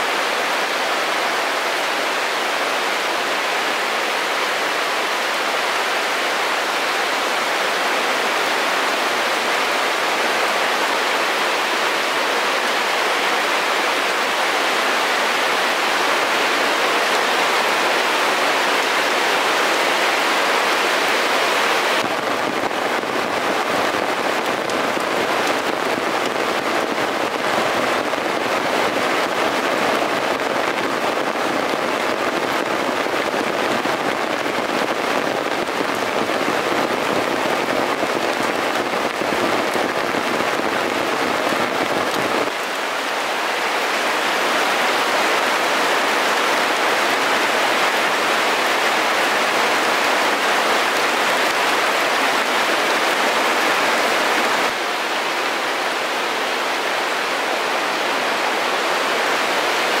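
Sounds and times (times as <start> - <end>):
heavy rain pouring: 0.0 - 60.0.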